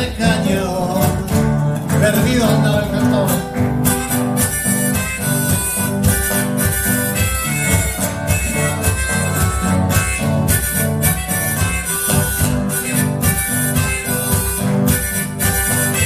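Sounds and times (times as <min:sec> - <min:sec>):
acoustic guitars strumming: 0:00.0 - 0:16.0
held melody line: 0:00.0 - 0:16.0
percussion bouncing beat: 0:00.0 - 0:16.0.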